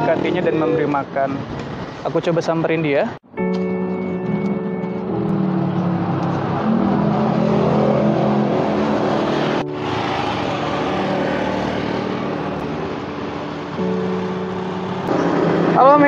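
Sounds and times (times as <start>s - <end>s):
vehicles passing on street: 0.0s - 16.0s.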